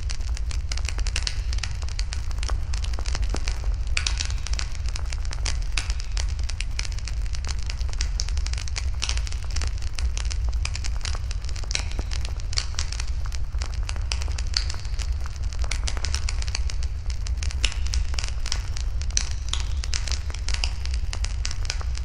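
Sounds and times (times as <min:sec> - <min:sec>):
low fire rumble: 0:00.0 - 0:22.0
wood fire crackling and popping: 0:00.0 - 0:22.0.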